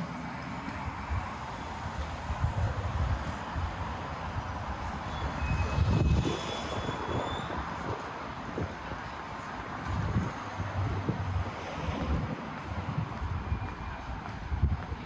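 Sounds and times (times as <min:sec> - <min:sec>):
traffic going by: 0:00.0 - 0:15.0
wind gusts on microphone: 0:00.7 - 0:15.0.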